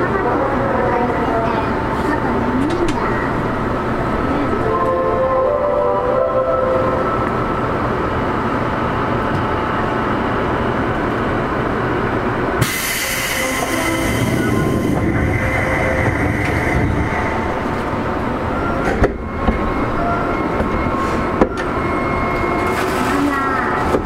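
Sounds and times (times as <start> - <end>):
electric train humming: 0.0 - 24.0.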